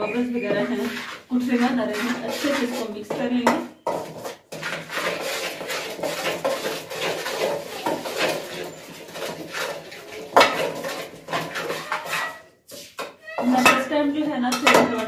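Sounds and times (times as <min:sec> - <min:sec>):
metal spoon stirring in metal pot: 0:00.0 - 0:15.0.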